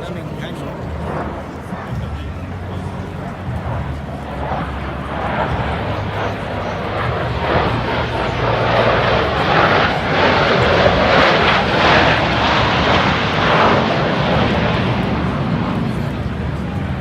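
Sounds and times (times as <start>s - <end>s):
jet roar flying past: 0.0s - 17.0s.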